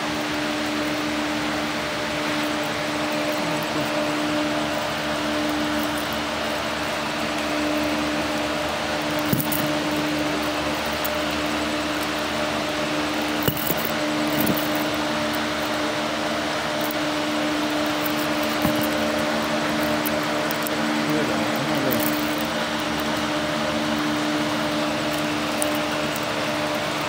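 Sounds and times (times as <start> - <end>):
mechanical hum and hiss: 0.0 - 27.0.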